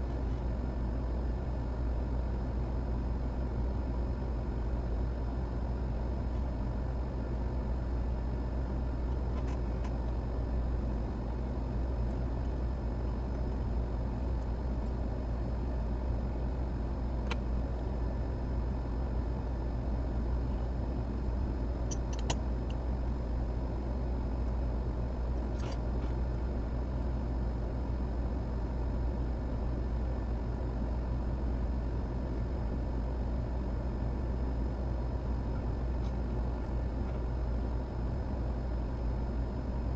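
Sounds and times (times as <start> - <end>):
fan or blower humming: 0.0 - 39.9.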